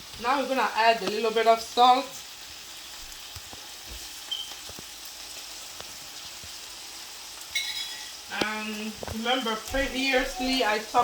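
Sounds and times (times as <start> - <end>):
onion frying in hot oil: 0.0 - 11.0.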